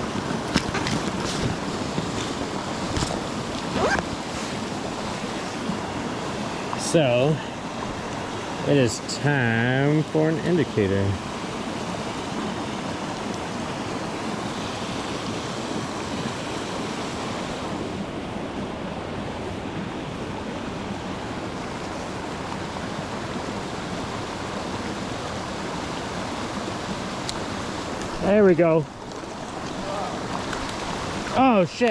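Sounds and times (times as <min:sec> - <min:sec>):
creek water flowing: 0:00.0 - 0:31.9.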